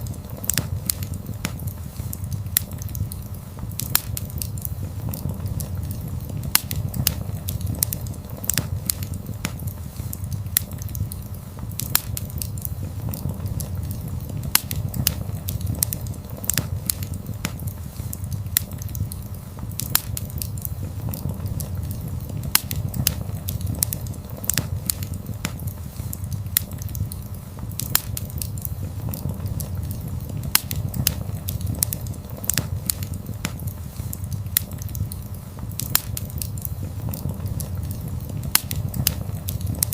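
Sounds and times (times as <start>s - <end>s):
burning wood crackling and popping: 0.0s - 39.9s
wood fire rumbling: 0.0s - 39.9s.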